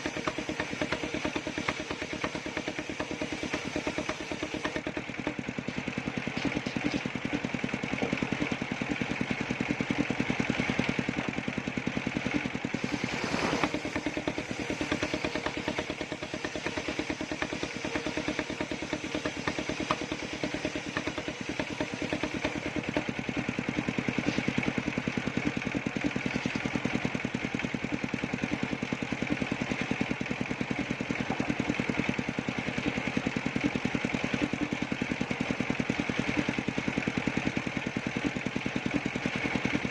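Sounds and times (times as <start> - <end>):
sawmill engine chugging: 0.0 - 39.9.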